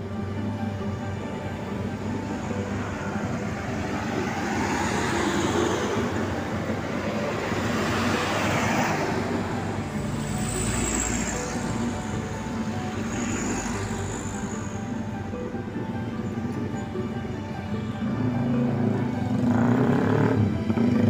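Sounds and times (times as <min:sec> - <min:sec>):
cars passing: 0:00.0 - 0:21.0
motorcycles passing: 0:00.0 - 0:21.0
truck engine rumbling past: 0:00.0 - 0:21.0.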